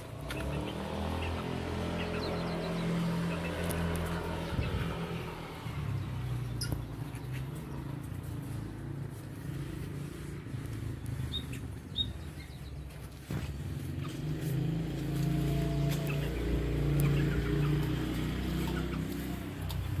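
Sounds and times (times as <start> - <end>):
low engine-like hum: 0.0 - 20.0.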